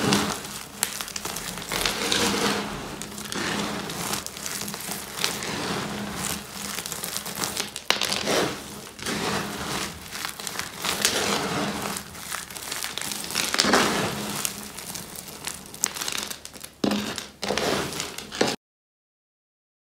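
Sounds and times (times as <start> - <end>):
soap pieces crunching: 0.0 - 18.6.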